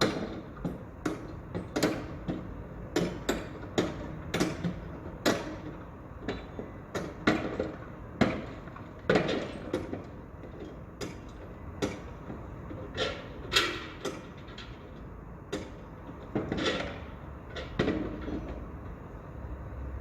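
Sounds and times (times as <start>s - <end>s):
materials and tools banging: 0.0s - 18.7s.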